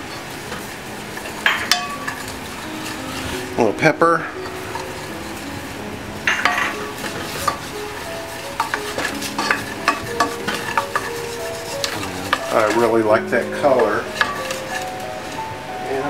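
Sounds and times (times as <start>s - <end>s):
wooden spoon scraping a pan: 0.0s - 15.6s
roux sizzling: 0.0s - 16.0s.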